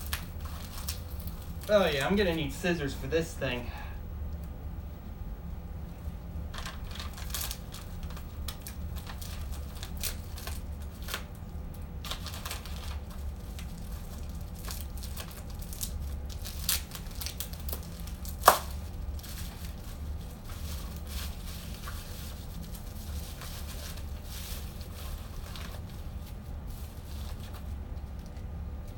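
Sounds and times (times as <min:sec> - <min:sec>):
plastic packaging tearing and crinkling: 0:00.0 - 0:02.5, 0:06.5 - 0:28.3.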